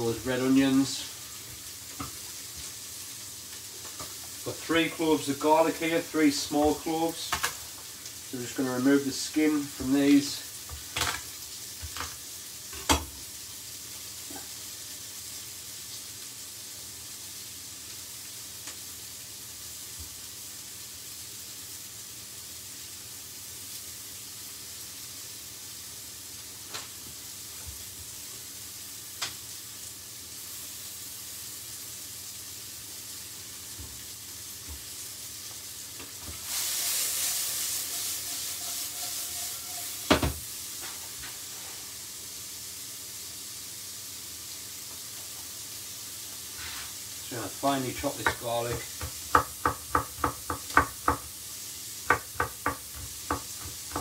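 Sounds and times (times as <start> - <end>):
vegetables sizzling in pan: 0.0 - 54.0.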